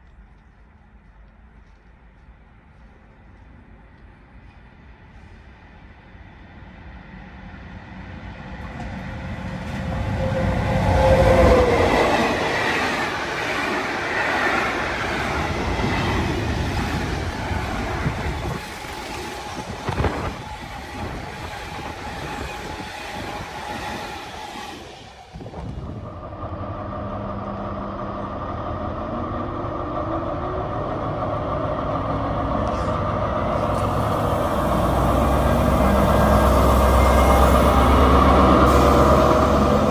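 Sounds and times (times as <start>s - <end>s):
train passing at speed: 0.0s - 39.9s.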